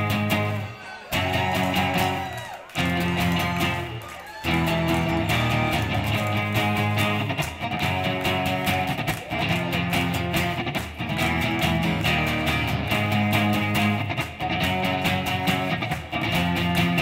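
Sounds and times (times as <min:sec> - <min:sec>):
guitars playing: 0:00.0 - 0:17.0.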